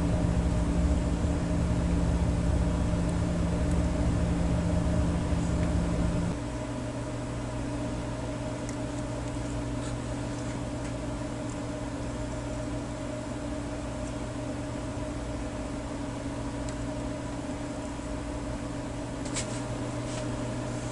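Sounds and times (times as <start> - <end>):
machinery humming and whirring: 0.0 - 20.9.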